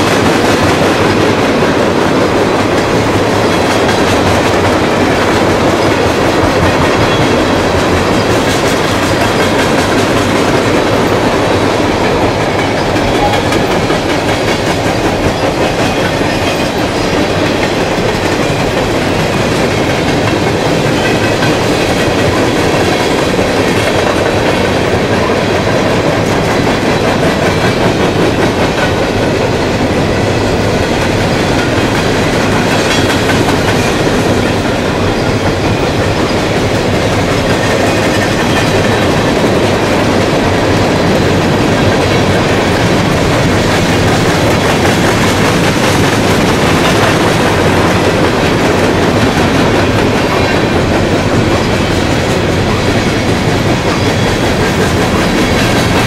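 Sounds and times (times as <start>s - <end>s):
freight train rolling past: 0.0s - 56.0s
wheels clicking over rail joints: 0.0s - 56.0s.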